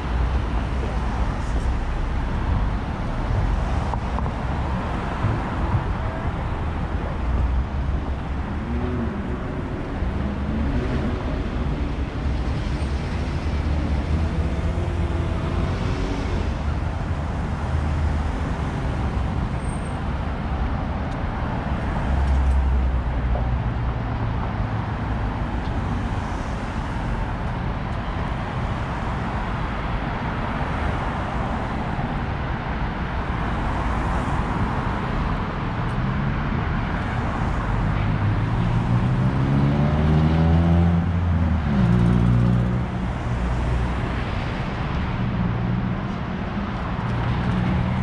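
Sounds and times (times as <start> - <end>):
vehicles passing: 0.0 - 48.0.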